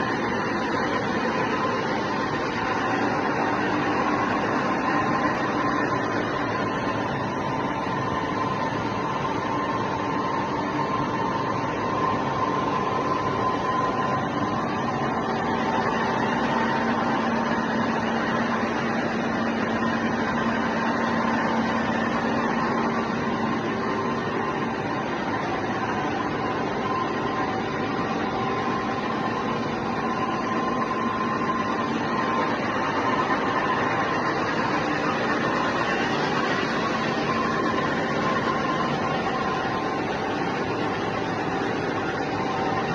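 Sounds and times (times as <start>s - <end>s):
machine tool running: 0.0s - 42.9s
whining tones: 0.0s - 42.9s.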